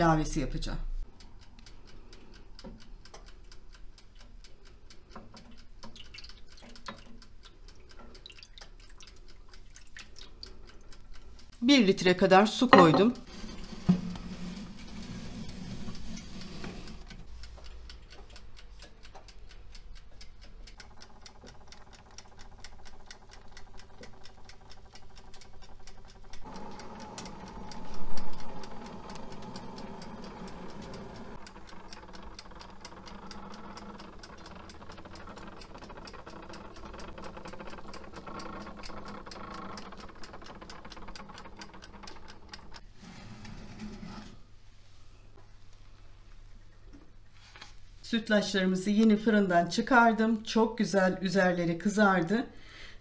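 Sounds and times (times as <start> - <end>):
clock ticking rapidly: 0.0 - 42.8.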